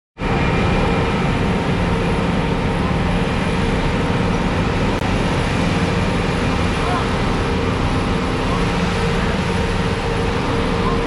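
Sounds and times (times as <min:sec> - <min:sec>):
diesel paving machine running: 0:00.2 - 0:11.0.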